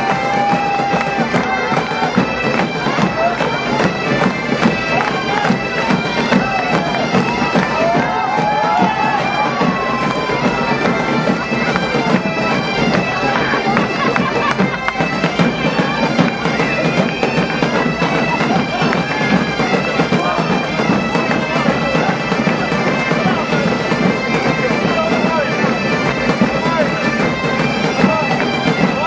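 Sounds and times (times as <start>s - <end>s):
bagpipes playing in unison: 0.0s - 29.0s.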